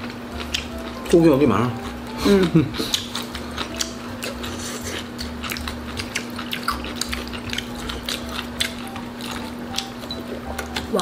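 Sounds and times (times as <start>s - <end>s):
wet chewing and mouth smacking: 0.0s - 1.1s, 1.8s - 11.0s.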